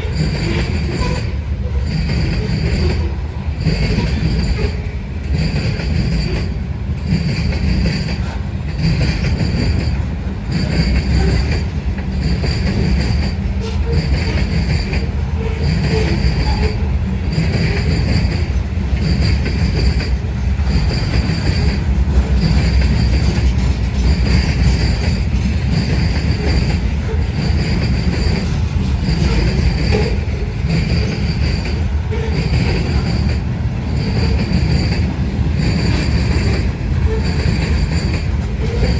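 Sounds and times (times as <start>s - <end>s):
freight cars rolling on rails: 0.0s - 38.9s.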